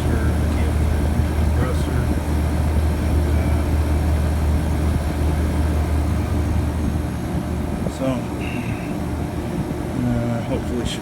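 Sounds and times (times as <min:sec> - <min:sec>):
refrigerator fan motor humming: 0:00.0 - 0:11.0.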